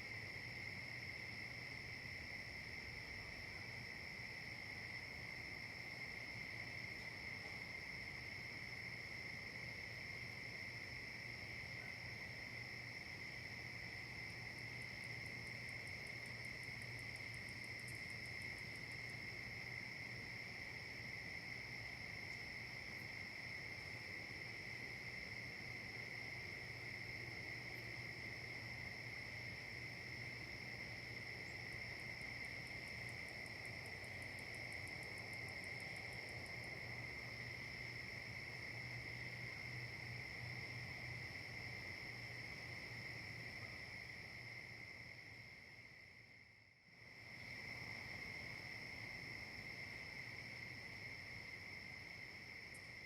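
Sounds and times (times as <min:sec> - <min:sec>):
crickets trilling: 0:00.0 - 0:53.0
insect chorus: 0:00.0 - 0:53.0.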